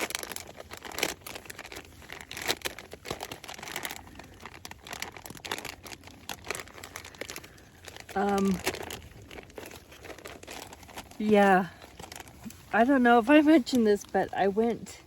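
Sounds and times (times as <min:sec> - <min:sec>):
nylon gear crinkling and rustling: 0:00.0 - 0:15.0
sharp crackles: 0:00.0 - 0:15.0.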